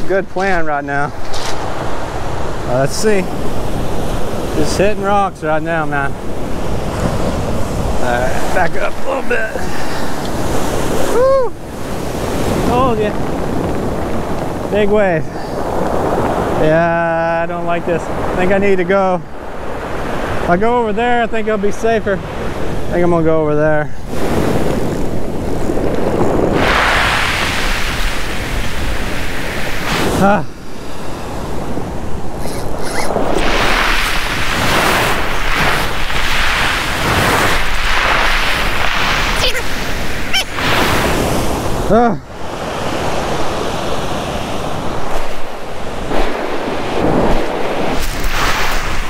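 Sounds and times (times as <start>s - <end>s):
ocean surf washing: 0.0s - 49.0s
wind buffeting microphone: 0.0s - 49.0s.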